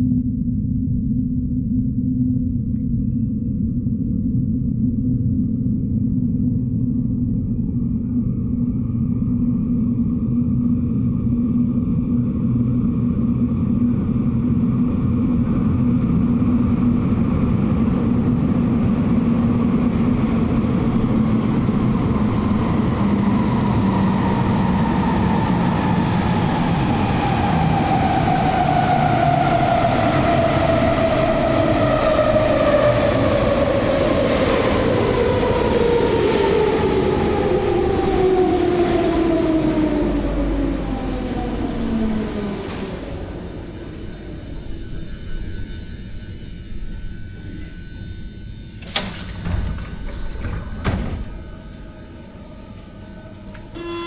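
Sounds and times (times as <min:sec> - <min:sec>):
train rumbling on rails: 0:05.2 - 0:54.0.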